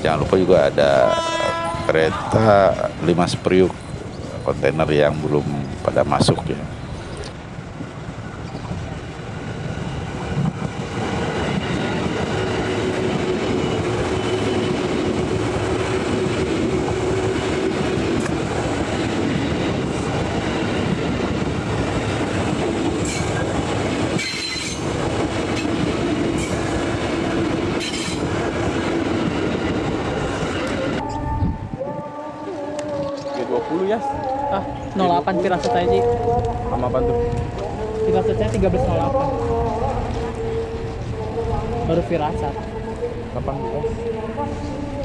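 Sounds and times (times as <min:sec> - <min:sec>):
held train tone: 0:00.0 - 0:05.8, 0:06.5 - 0:45.0
train wheels rumbling on rail: 0:00.0 - 0:45.0.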